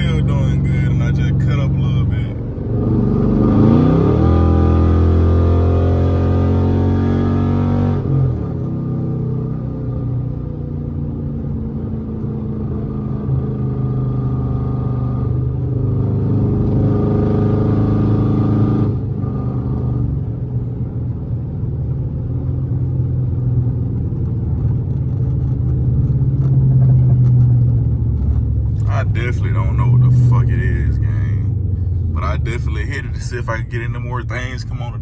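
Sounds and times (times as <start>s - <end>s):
car engine while driving: 0.0s - 35.0s.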